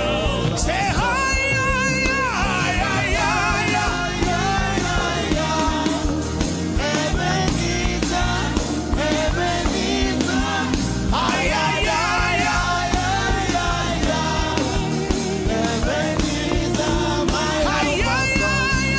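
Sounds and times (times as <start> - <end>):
band with steady drum beat: 0.0 - 18.9
voices singing and chanting: 0.0 - 18.9.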